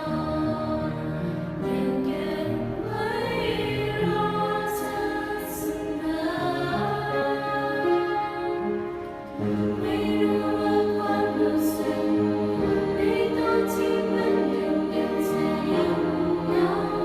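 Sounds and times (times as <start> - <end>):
choir singing in harmony: 0.0 - 17.0.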